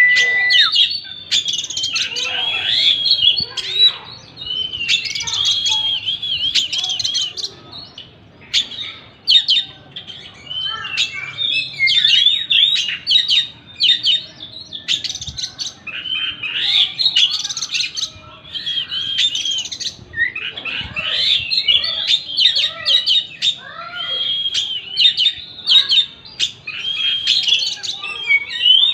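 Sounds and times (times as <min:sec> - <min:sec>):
bird singing chirps and whistles: 0:00.0 - 0:28.9.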